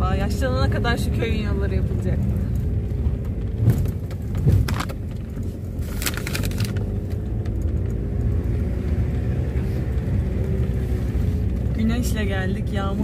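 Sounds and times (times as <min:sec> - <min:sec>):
car engine and road rumble: 0:00.0 - 0:13.0
car rattling over bumps: 0:00.0 - 0:13.0.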